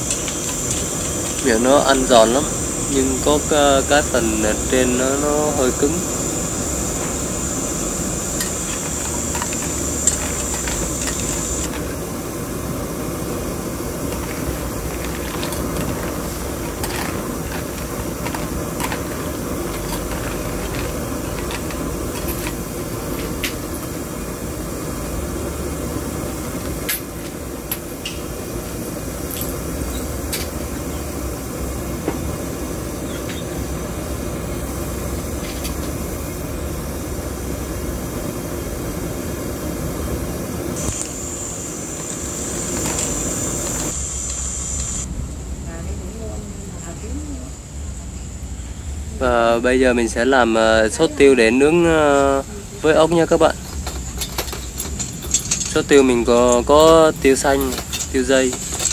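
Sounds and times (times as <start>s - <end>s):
water boiling: 0.0s - 45.1s, 49.2s - 58.9s
gas burner rushing: 0.0s - 58.9s.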